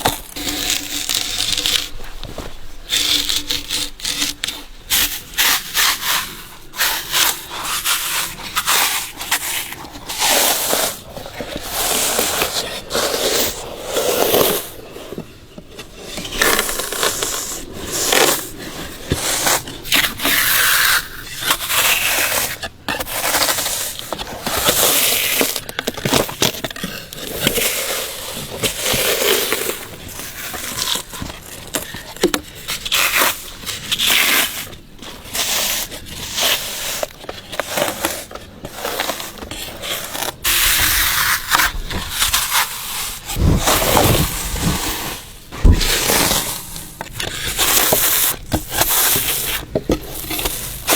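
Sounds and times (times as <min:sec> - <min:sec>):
bark tearing and scraping: 0:00.0 - 0:50.9.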